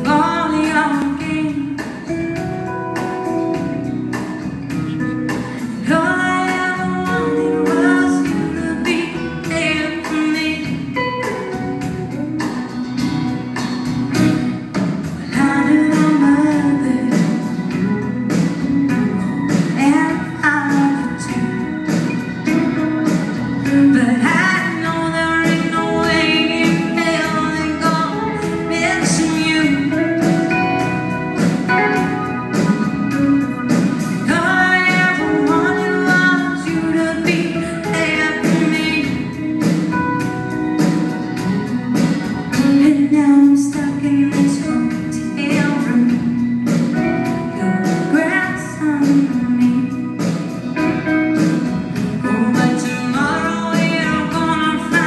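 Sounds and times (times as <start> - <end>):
acoustic and electric guitars: 0.0 - 55.0
drums: 0.0 - 55.0
keyboard: 0.0 - 55.0
woman singing lead: 0.0 - 55.0.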